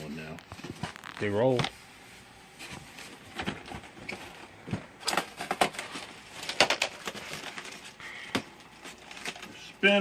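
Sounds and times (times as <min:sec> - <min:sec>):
packaging rustling: 0:00.2 - 0:01.8, 0:02.6 - 0:10.0.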